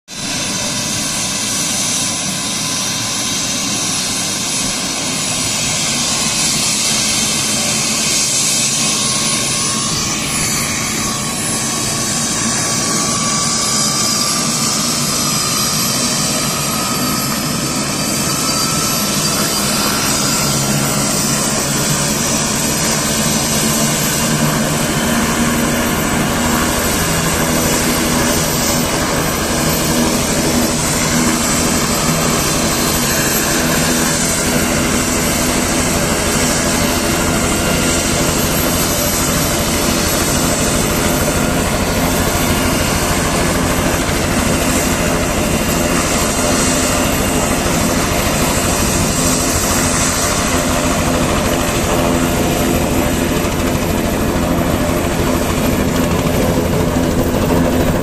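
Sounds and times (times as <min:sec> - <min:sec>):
helicopter rotor rush: 0:00.0 - 0:58.0
helicopter turbine whine: 0:00.0 - 0:58.0.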